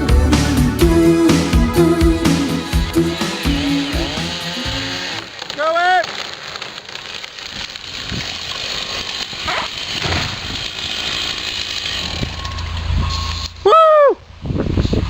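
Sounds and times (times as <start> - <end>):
chainsaw running: 0.0 - 13.7.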